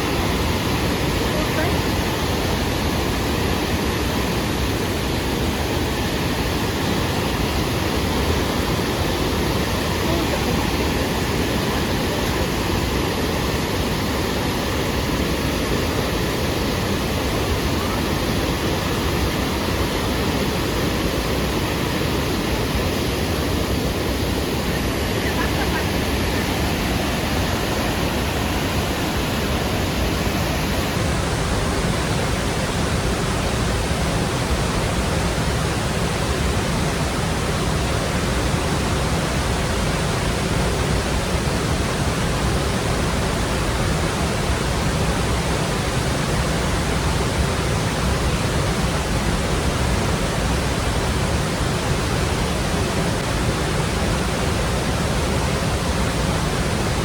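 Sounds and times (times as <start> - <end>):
water rushing over weir: 0.0 - 57.0.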